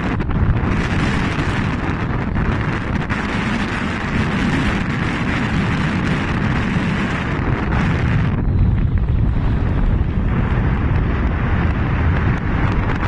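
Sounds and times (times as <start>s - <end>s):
blizzard wind buffeting microphone: 0.0s - 13.0s.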